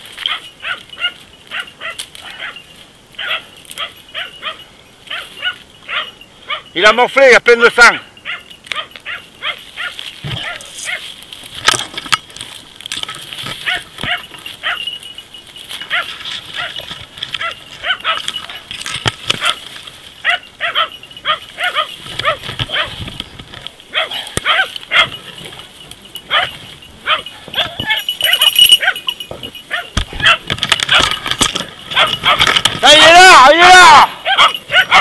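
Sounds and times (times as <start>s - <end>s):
dogs barking: 0.2s - 6.8s, 7.9s - 11.2s, 13.5s - 15.0s, 15.8s - 23.1s, 23.8s - 35.0s.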